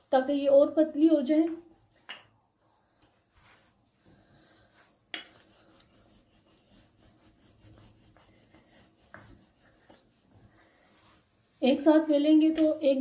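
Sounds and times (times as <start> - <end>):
rolling pin rubbing on dough: 0.0 - 2.1, 3.2 - 13.0.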